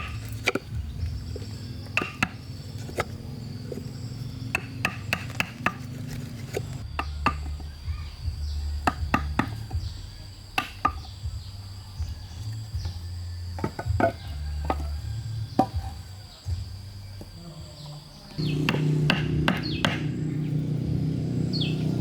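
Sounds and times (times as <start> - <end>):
hand tool striking wood: 0.0 - 7.8, 8.4 - 16.8, 18.4 - 20.2
insects buzzing: 0.0 - 22.0.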